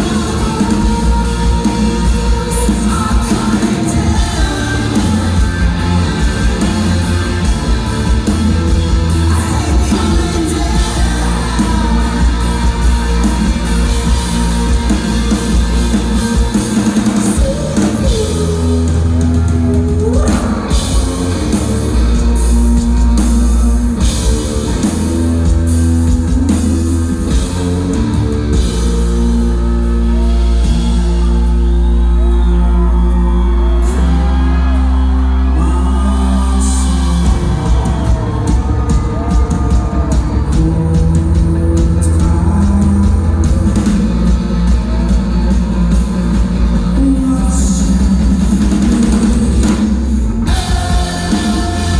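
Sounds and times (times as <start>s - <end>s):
loud live rock band: 0.0s - 51.9s
person singing: 0.0s - 51.9s.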